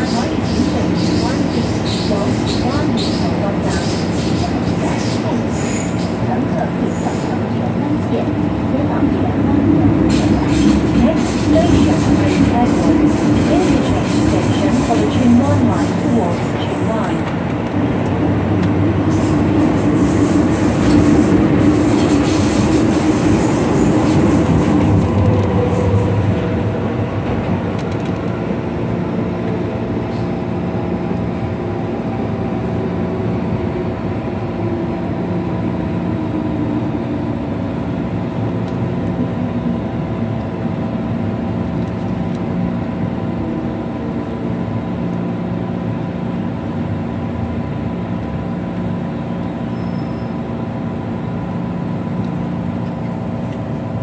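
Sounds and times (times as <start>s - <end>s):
train braking hum and whine: 0.0s - 54.0s
train wheel and rail noise: 0.0s - 54.0s.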